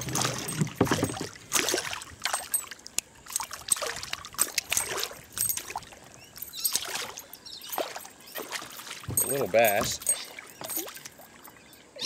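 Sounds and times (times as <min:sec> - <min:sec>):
water splashing and dripping: 0:00.0 - 0:11.6.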